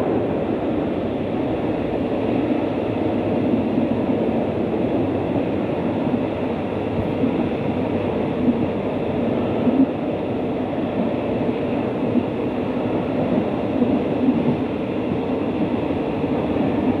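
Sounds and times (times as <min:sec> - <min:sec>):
passenger train rumbling on track: 0:00.0 - 0:17.0.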